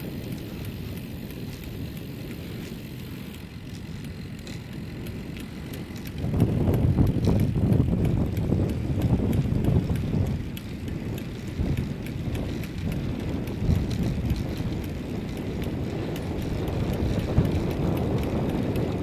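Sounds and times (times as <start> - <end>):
road noise: 0.0 - 19.0
wind rushing over microphone: 0.0 - 19.0.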